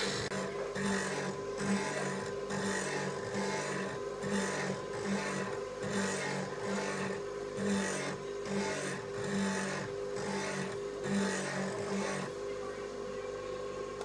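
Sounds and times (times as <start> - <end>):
chisel grinding rasp: 0.0 - 12.3
bench grinder humming: 0.0 - 14.0.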